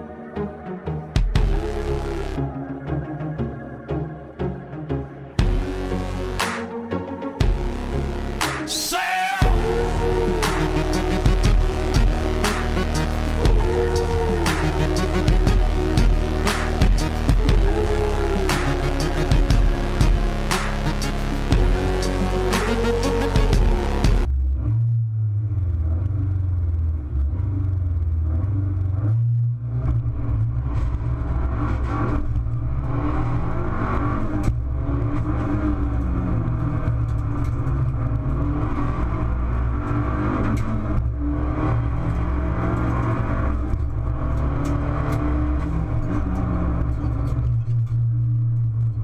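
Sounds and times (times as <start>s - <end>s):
race car engine accelerating: 0.0s - 49.0s.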